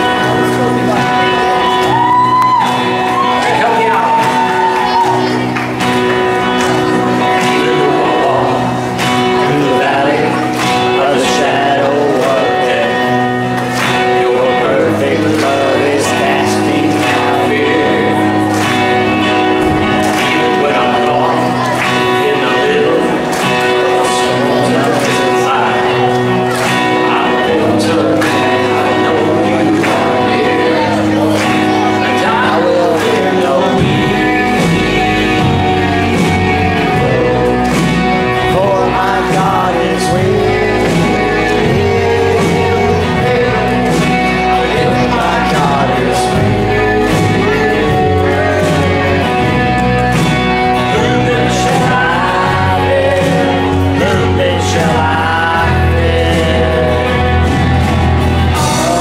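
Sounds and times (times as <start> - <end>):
bass: 0.0 - 59.0
person singing: 0.0 - 59.0
steady drum beat: 0.0 - 59.0
worship band chords: 0.0 - 59.0.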